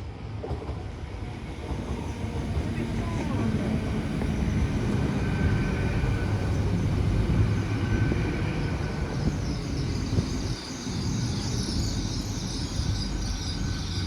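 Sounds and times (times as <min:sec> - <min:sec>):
diesel train rumbling past: 0:00.0 - 0:14.0.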